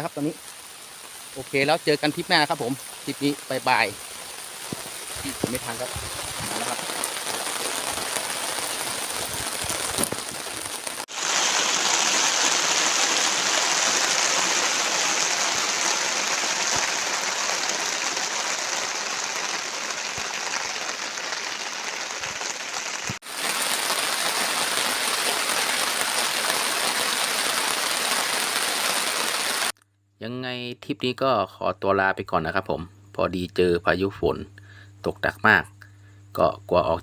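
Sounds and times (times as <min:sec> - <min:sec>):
heavy rain pouring: 0:00.0 - 0:29.8.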